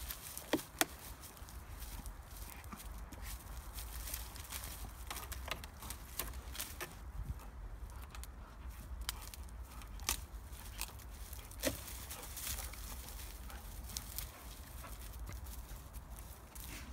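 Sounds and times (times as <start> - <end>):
dry grass and twigs crackling: 0.0 - 16.9.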